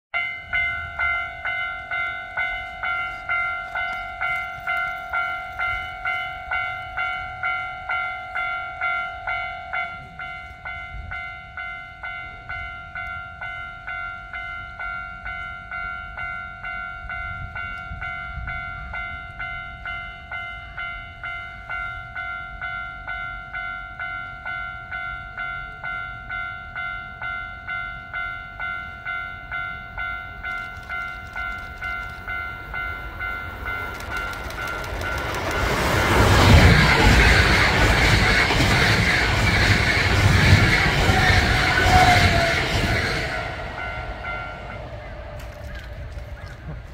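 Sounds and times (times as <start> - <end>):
level crossing warning bell clanging: 0.1 - 46.9.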